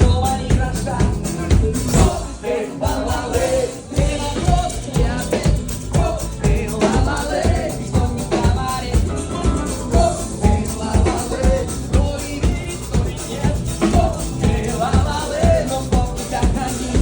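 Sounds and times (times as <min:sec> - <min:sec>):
band playing pop music: 0:00.0 - 0:17.0
person singing: 0:00.0 - 0:17.0
steady drum beat: 0:00.0 - 0:17.0.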